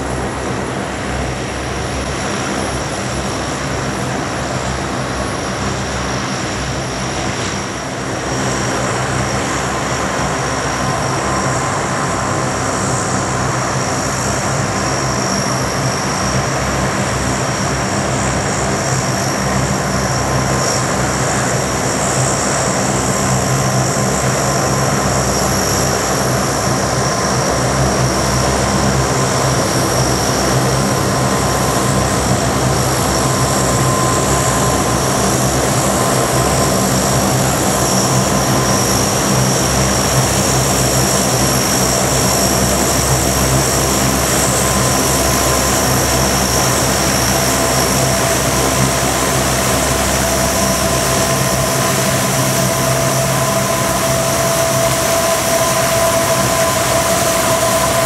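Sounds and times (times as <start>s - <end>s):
propeller drone: 0.0s - 58.0s
turbine whine: 0.0s - 58.0s.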